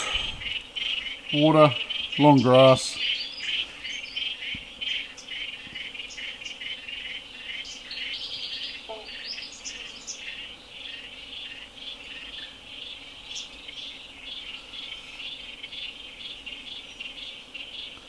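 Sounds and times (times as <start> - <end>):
bird chirps: 0.0 - 18.0
frogs or insects chirping: 0.0 - 18.0.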